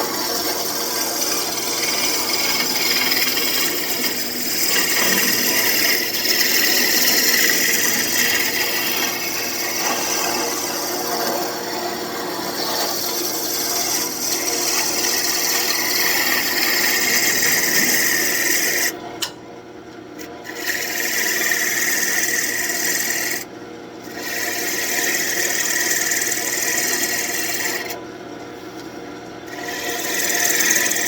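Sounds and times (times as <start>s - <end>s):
lathe motor hum: 0.0s - 19.0s, 20.2s - 28.0s, 29.4s - 31.0s
lathe tool shaving wood: 0.0s - 19.0s, 20.2s - 28.0s, 29.5s - 31.0s.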